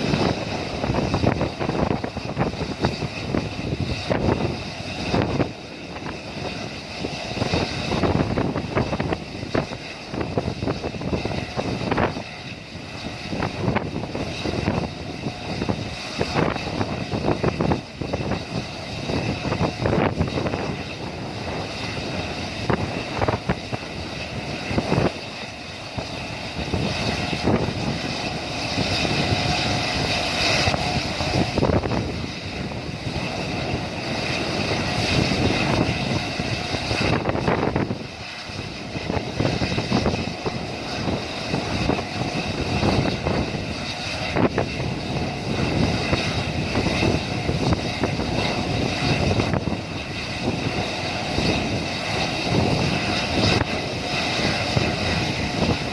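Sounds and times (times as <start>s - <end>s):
helicopter rotor roar: 0.0s - 55.9s
helicopter turbine whine: 0.0s - 55.9s.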